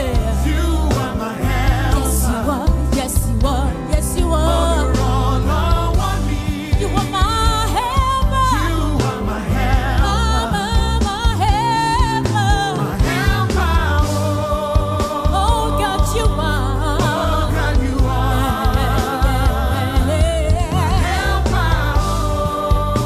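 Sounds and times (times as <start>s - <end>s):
bass and beat: 0.0s - 23.0s
gospel singing with vibrato: 0.0s - 23.0s.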